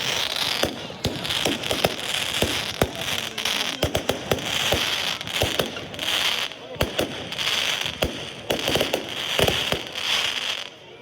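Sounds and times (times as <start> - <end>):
fireworks banging: 0.0 - 10.8
fireworks crackling: 0.0 - 11.0.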